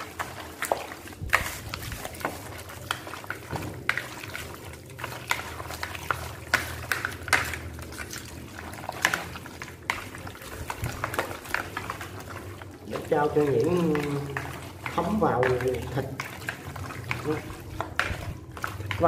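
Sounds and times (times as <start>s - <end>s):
meat squelching as mixed by hand: 0.0s - 19.0s.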